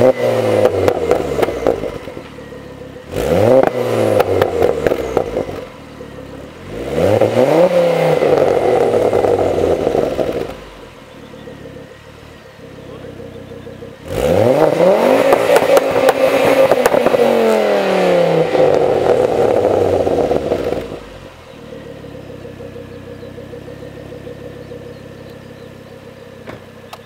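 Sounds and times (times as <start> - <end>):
car engine revving and idling: 0.0 - 27.0
exhaust crackles: 0.0 - 27.0.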